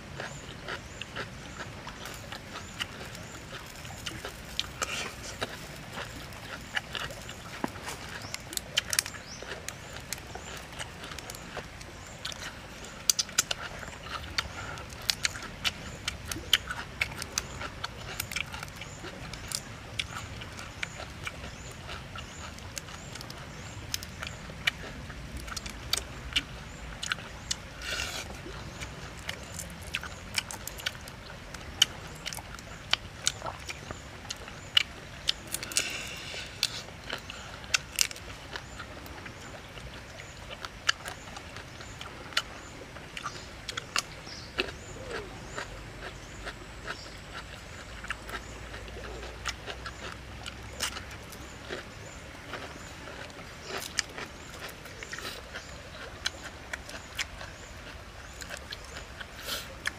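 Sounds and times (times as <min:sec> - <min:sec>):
lip smacking and chewing: 0:00.1 - 0:59.9.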